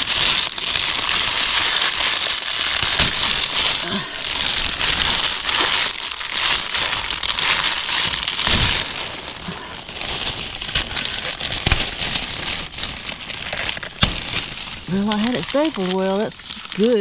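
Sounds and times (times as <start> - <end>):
plastic sheeting crinkling: 0.0 - 17.0.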